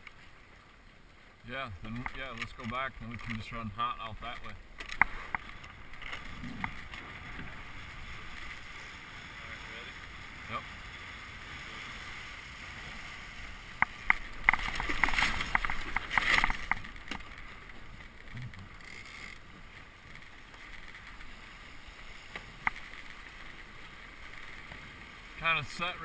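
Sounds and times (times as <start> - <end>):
sails flapping: 0.0 - 26.0
wind and water rushing along hull: 0.0 - 26.0.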